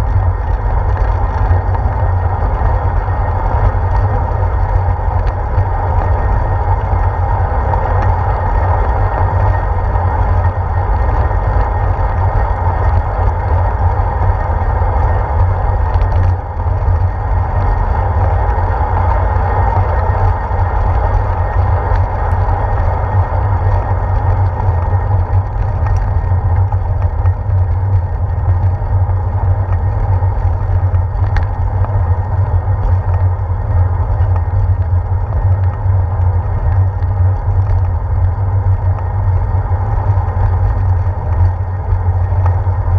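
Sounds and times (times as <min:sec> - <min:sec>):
bicycle road noise: 0:00.0 - 0:42.9
wind rumble: 0:00.0 - 0:42.9.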